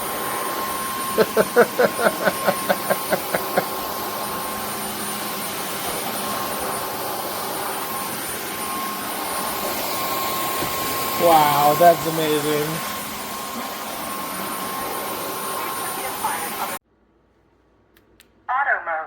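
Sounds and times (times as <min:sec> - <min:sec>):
vacuum mop motor whine: 0:00.0 - 0:16.8.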